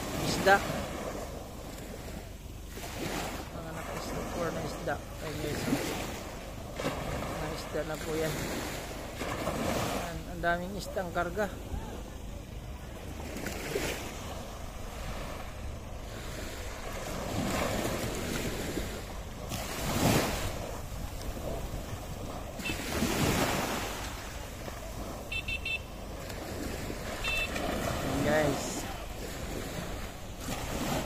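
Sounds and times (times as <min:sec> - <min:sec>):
small waves breaking: 0:00.0 - 0:31.0.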